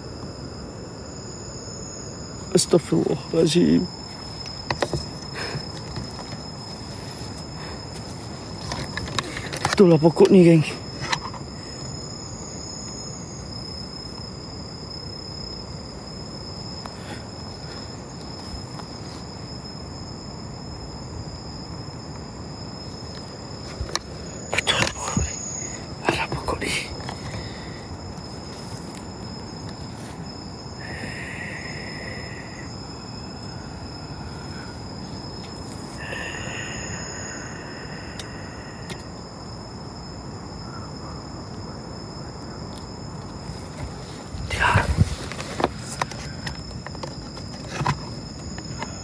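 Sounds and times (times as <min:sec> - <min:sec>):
insects chirring: 0:00.0 - 0:49.0
outdoor background hiss: 0:00.0 - 0:49.0.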